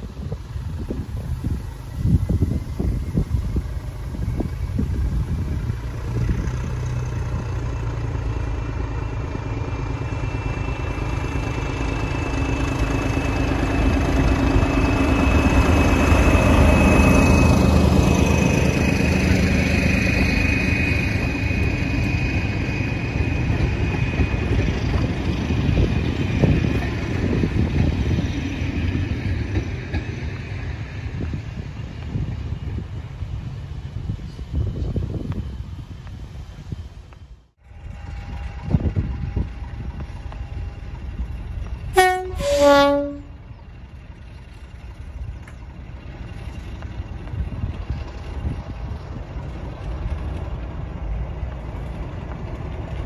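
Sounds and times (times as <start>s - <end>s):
diesel locomotive passing: 0.0s - 53.0s.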